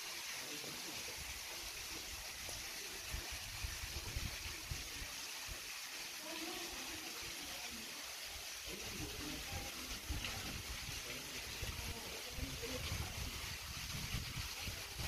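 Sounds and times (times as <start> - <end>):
fountain water hissing: 0.0 - 15.0
faint distant voices: 0.2 - 13.6.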